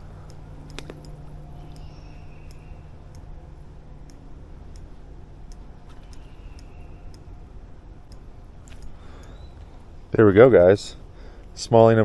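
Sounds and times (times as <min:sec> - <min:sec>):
light regular ticking: 0:00.0 - 0:12.0
steady low rumble: 0:00.0 - 0:12.0.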